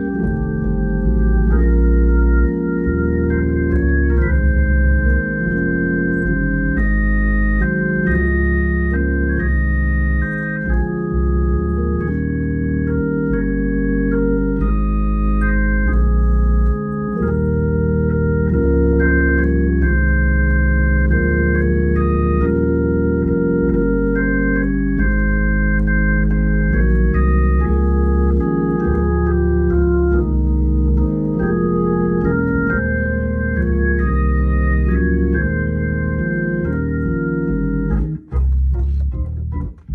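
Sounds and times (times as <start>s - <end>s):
deep bass notes: 0.0s - 39.9s
organ playing held chords: 0.0s - 39.9s.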